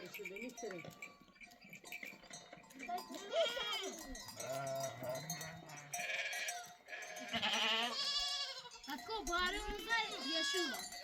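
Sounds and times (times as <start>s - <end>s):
sheep and goats bleating: 0.0s - 11.0s.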